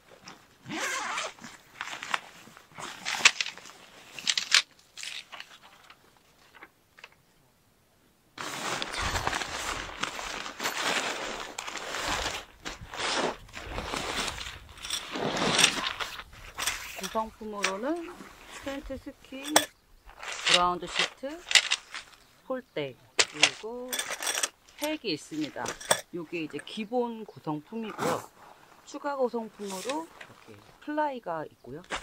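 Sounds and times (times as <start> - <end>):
tent fabric rustling: 0.0 - 6.7, 8.4 - 22.6, 23.2 - 32.0.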